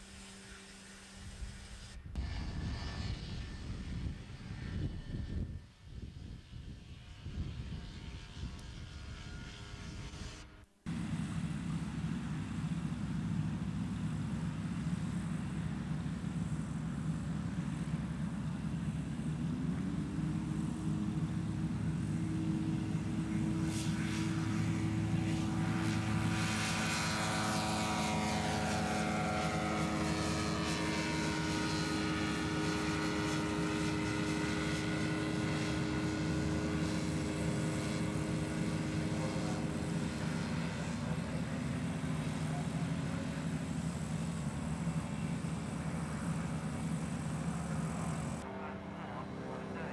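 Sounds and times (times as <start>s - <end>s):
light aircraft engine and propeller: 0.0s - 49.9s.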